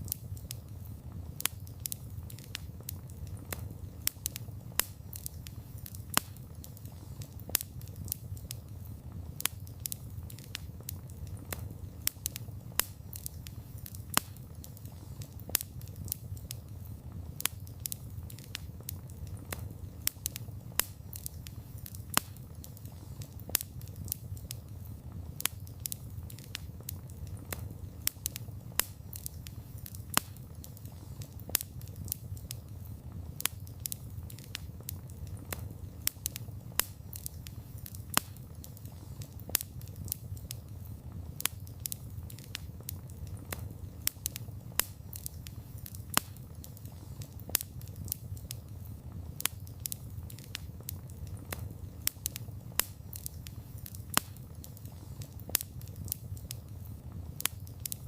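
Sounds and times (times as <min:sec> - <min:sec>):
burning wood crackling and popping: 0:00.0 - 0:58.0
low rumble of flames: 0:00.0 - 0:58.0.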